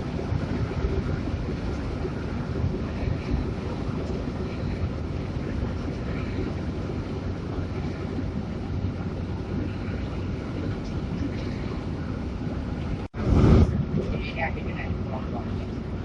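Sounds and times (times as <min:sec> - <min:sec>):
bus engine drone: 0:00.0 - 0:16.0
road and wind noise: 0:00.0 - 0:16.0.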